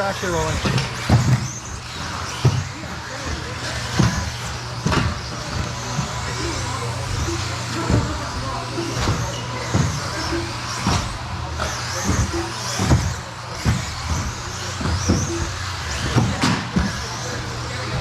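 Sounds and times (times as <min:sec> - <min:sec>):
electric motors whining: 0:00.0 - 0:18.0
toy cars clacking and thumping: 0:00.0 - 0:18.0.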